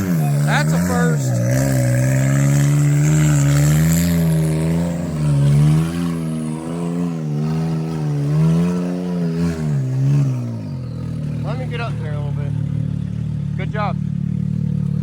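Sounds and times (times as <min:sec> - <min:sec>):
engine revving under throttle: 0:00.0 - 0:15.0.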